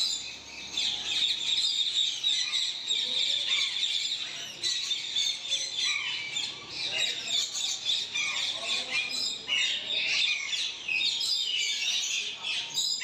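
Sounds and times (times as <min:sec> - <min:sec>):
parrots chirping and squawking: 0:00.0 - 0:13.0.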